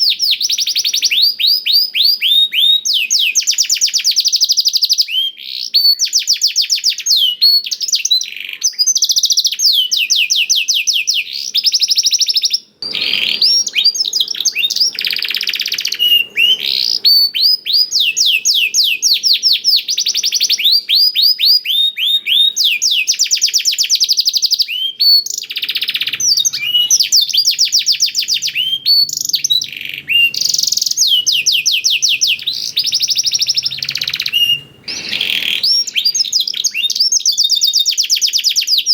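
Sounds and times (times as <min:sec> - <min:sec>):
canary singing trills and chirps: 0:00.0 - 0:38.9.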